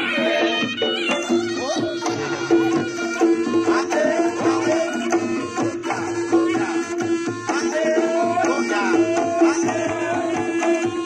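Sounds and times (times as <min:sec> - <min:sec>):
hand drum patterns: 0:00.0 - 0:11.0.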